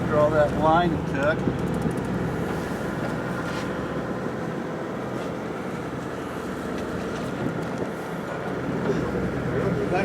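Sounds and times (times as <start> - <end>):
boat engine running: 0.0 - 10.0
water noise: 0.0 - 10.0.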